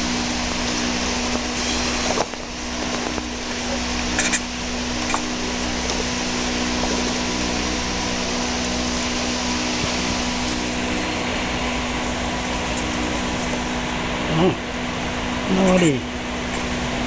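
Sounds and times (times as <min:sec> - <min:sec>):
machine whirring with low hum: 0:00.0 - 0:17.0.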